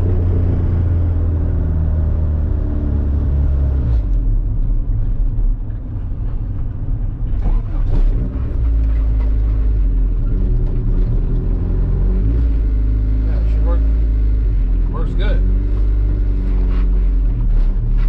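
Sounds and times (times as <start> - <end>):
car engine low rumble: 0.0 - 18.0.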